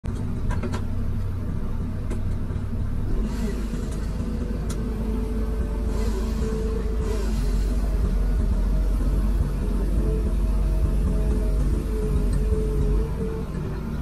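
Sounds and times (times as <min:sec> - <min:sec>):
excavator diesel engine running: 0:00.1 - 0:14.0
hydraulic whine: 0:00.9 - 0:14.0.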